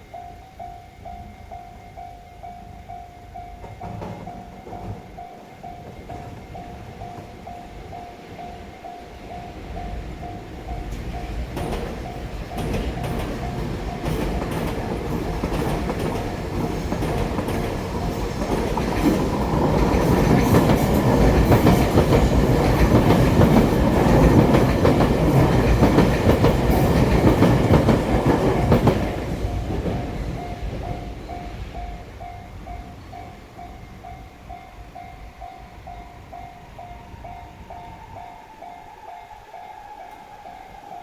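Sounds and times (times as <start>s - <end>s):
crossing warning bell ringing: 0.0s - 41.0s
train wheels clacking: 3.4s - 41.0s.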